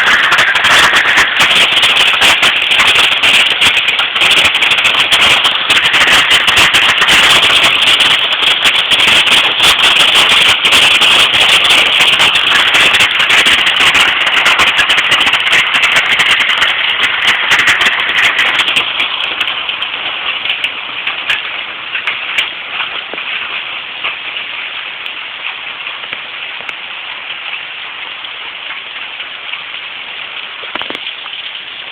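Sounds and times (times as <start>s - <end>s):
hail pelting down: 0.0s - 31.9s.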